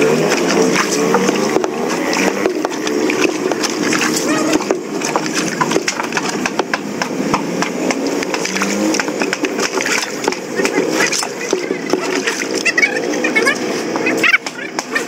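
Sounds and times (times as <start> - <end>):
workers' voices: 0.0 - 15.0.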